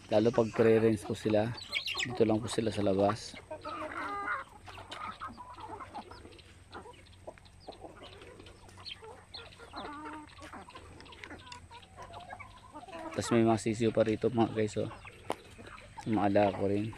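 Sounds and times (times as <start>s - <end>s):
chickens clucking: 0.0s - 16.9s
chicken drawn-out call: 3.0s - 16.9s.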